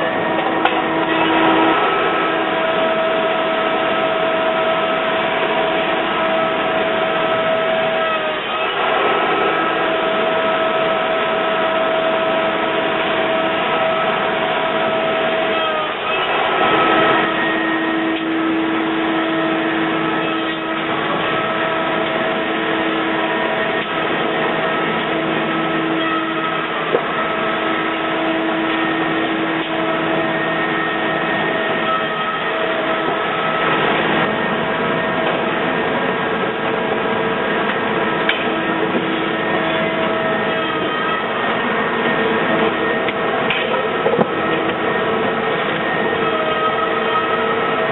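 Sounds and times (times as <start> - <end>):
machine motors humming: 0.0 - 47.9
machine whines: 0.0 - 47.9.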